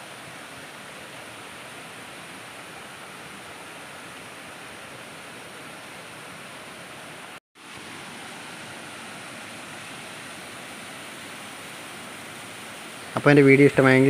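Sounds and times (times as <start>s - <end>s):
waterfall cascading: 0.0s - 14.0s.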